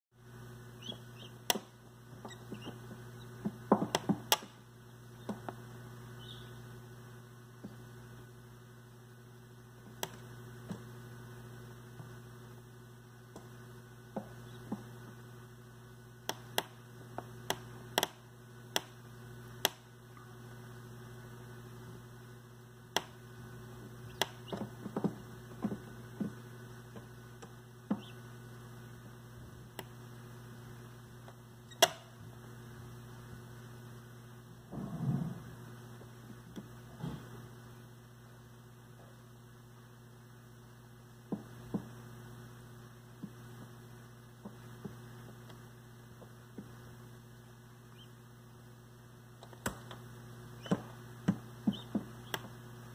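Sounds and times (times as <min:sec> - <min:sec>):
egg incubator humming: 0:00.2 - 0:52.9.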